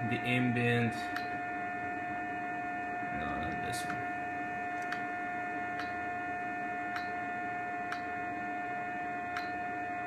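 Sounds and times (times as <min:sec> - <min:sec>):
water chiller humming: 0:00.0 - 0:10.0.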